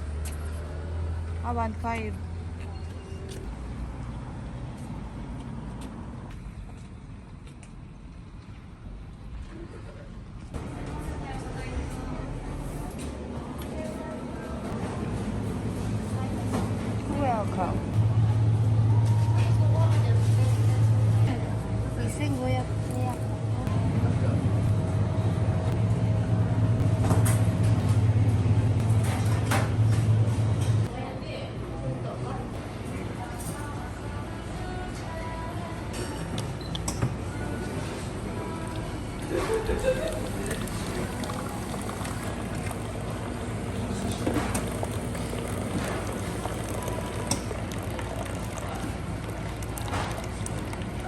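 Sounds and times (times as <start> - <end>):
road vehicle rumble: 0.0 - 31.0, 32.4 - 51.0.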